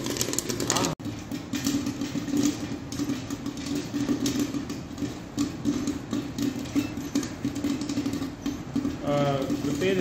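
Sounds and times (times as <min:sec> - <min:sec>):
popcorn machine motor hum: 0:00.0 - 0:10.0
popcorn popping and crackling: 0:00.0 - 0:10.0.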